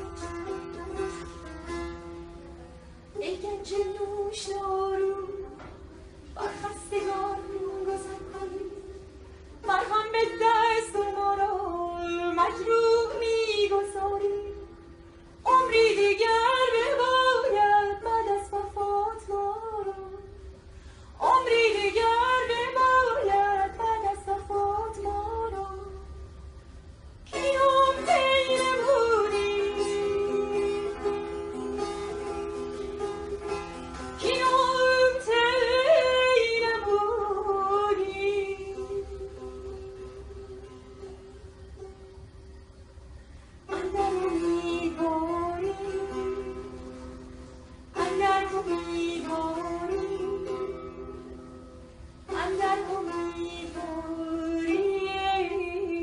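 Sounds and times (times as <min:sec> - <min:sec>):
plucked lute: 0:00.0 - 0:56.0.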